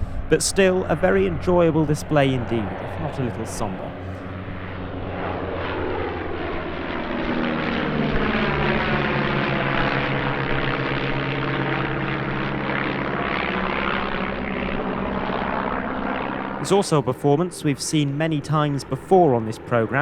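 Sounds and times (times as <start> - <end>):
biplane engines droning: 0.0 - 20.0.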